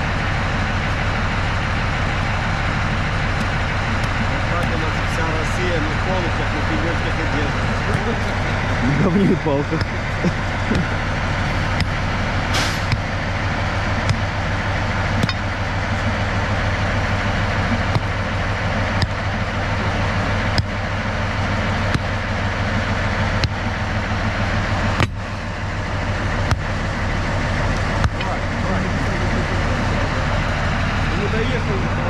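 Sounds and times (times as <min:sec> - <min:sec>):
diesel locomotive engine rumbling: 0:00.0 - 0:32.0.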